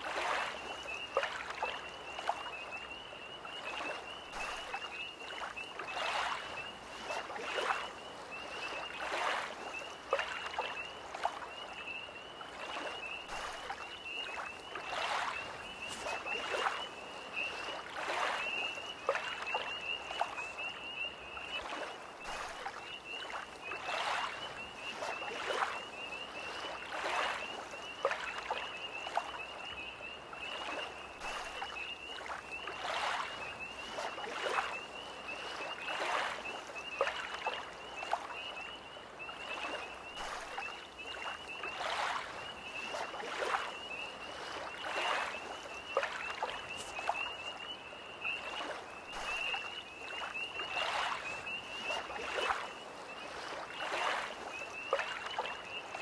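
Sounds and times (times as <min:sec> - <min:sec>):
lake waves lapping: 0:00.0 - 0:56.0
tree frogs trilling: 0:00.0 - 0:56.0.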